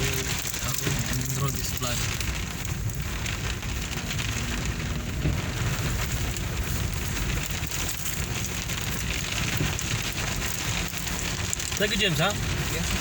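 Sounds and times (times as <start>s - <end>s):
rain splashing on surfaces: 0.0s - 13.0s.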